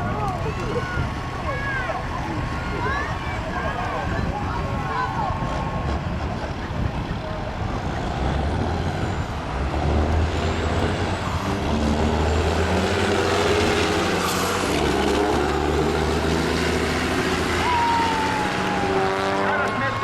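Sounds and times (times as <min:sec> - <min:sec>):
diesel truck engines running: 0:00.0 - 0:20.0.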